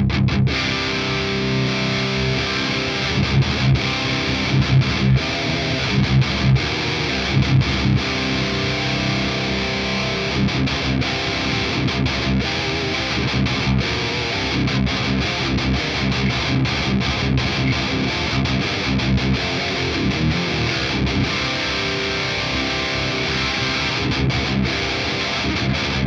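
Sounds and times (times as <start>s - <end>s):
distorted electric guitar riff: 0.0s - 26.0s.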